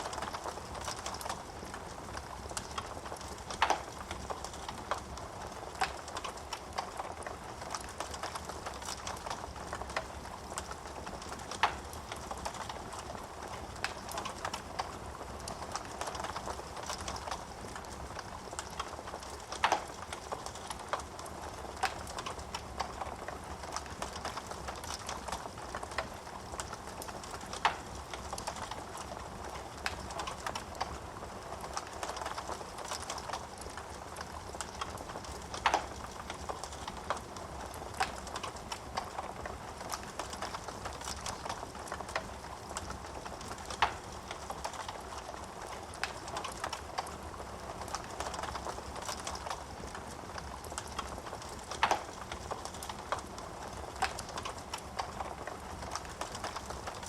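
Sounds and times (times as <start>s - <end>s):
burning wood popping: 0.0s - 57.0s
wood fire crackling: 0.0s - 57.0s.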